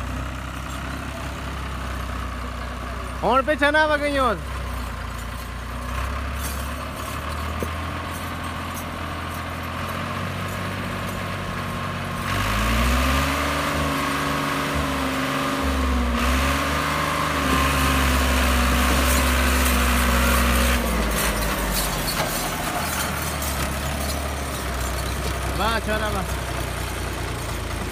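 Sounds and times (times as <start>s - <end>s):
tractor diesel engine revving: 0.0s - 27.9s.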